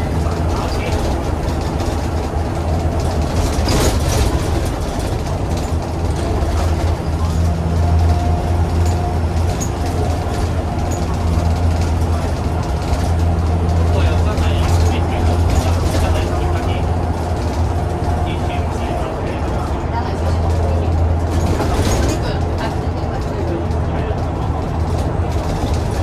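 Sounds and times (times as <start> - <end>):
bus engine drone: 0.0 - 26.0
road noise: 0.0 - 26.0.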